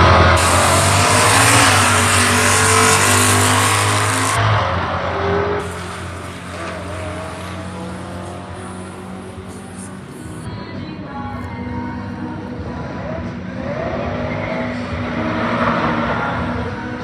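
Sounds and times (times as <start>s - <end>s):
drag race cars at full throttle: 0.0s - 17.0s.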